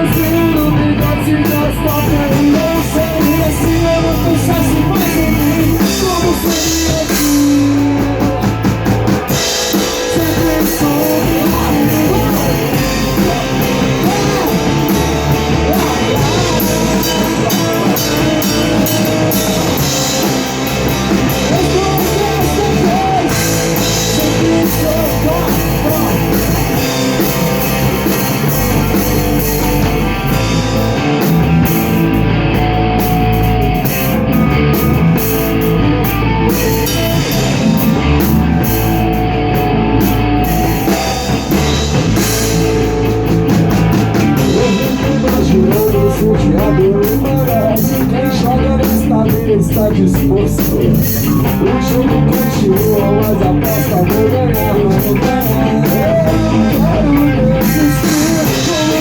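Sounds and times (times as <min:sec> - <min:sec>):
drum kit playing: 0:00.0 - 0:59.0
electric guitar: 0:00.0 - 0:59.0.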